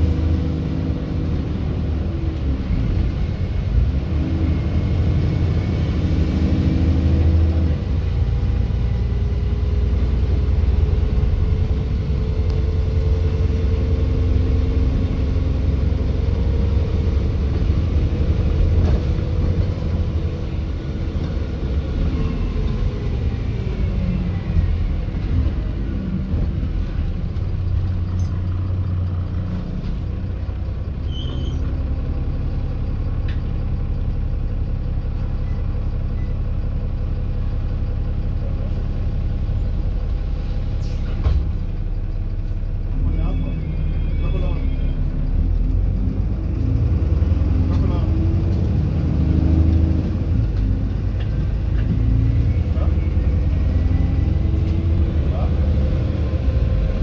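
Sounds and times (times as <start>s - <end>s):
bus engine rumble with whine: 0.0s - 57.0s.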